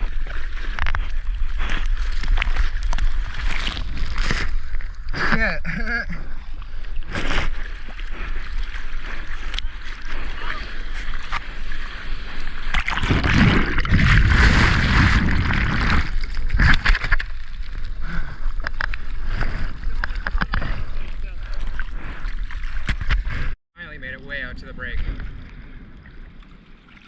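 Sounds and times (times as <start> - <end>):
water splashing and sloshing: 0.0 - 23.6, 24.4 - 27.0.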